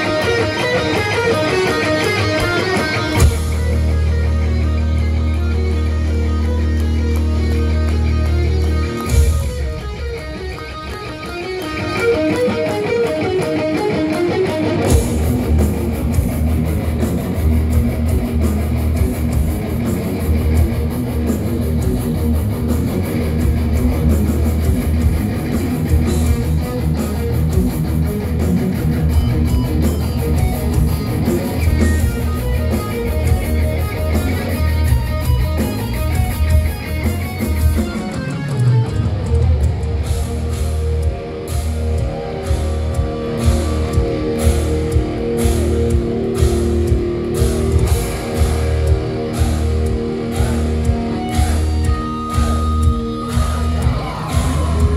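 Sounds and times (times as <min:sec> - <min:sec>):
lone guitar melodic line: 0:00.0 - 0:54.9
thrash metal band playing: 0:00.0 - 0:54.9.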